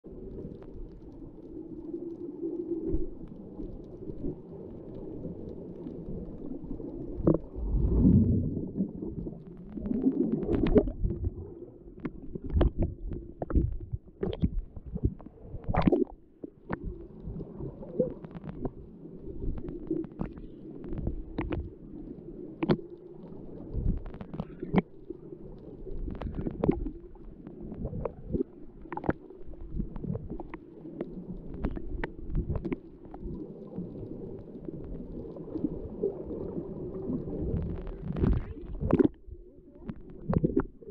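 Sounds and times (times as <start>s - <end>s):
muffled underwater rumbling: 0.1s - 40.9s.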